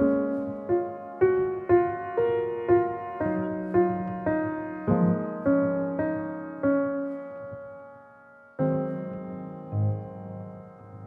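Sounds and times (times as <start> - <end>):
piano-like keyboard melody: 0.0 - 11.0.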